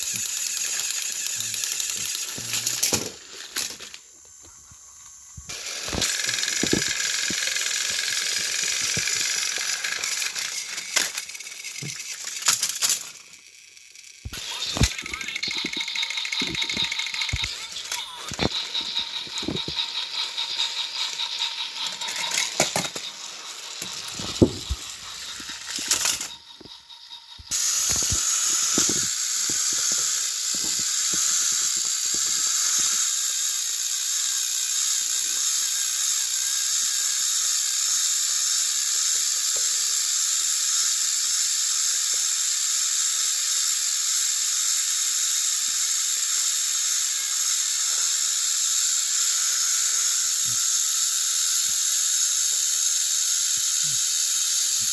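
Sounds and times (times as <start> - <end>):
toy train clicking and rattling: 0.0 - 54.9.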